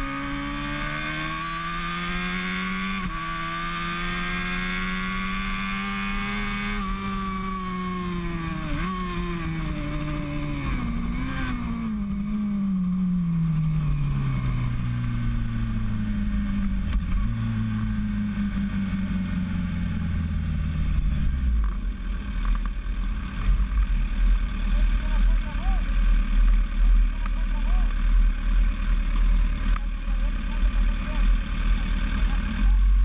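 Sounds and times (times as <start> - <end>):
motorcycle engine decelerating: 0.0 - 33.0.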